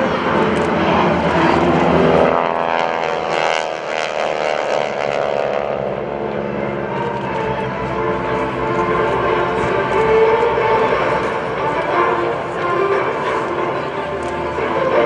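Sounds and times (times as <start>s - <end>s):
propeller planes droning past: 0.0s - 15.0s.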